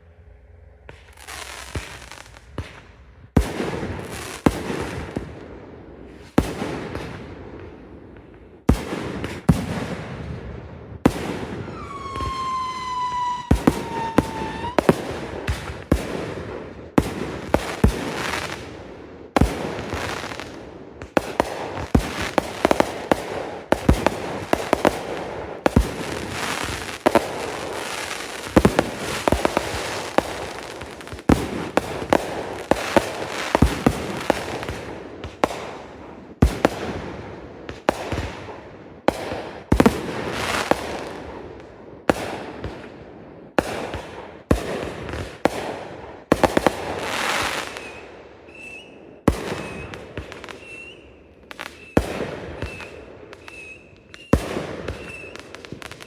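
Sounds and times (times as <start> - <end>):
fireworks crackling and hissing: 0.8 - 43.0, 43.6 - 56.0
firework bangs: 6.1 - 41.3, 43.6 - 56.0.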